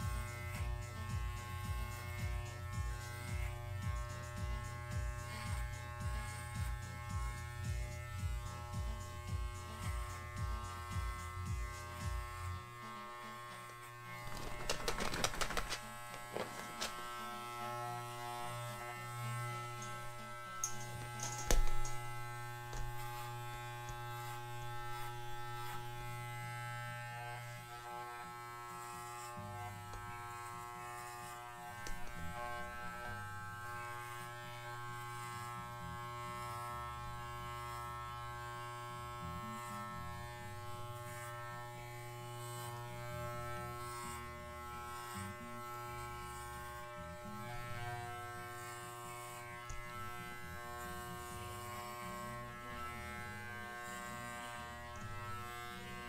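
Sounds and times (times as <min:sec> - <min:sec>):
electric clippers buzzing: 0:00.0 - 0:56.0.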